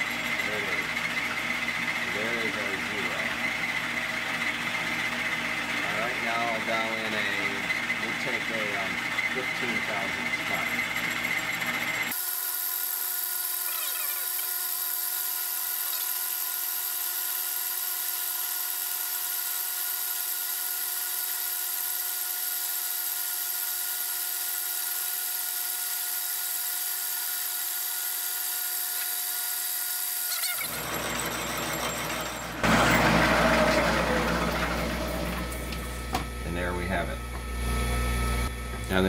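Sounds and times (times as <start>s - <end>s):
milling machine cutting metal: 0.0s - 39.0s.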